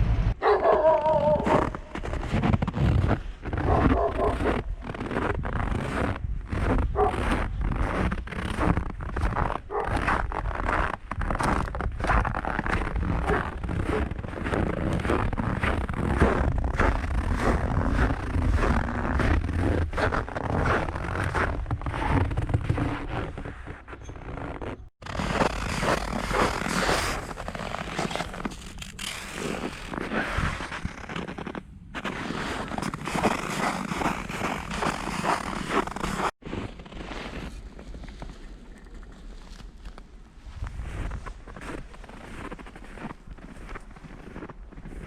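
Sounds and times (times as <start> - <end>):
footsteps on snow: 0.4 - 45.0.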